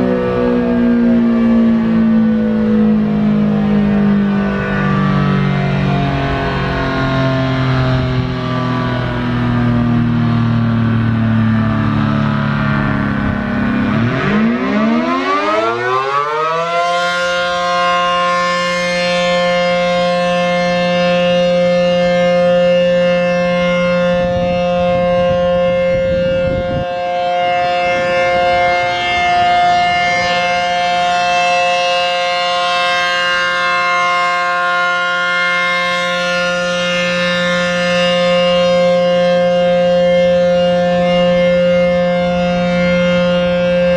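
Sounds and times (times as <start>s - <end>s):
warning siren rising to steady tone: 0.0s - 43.9s.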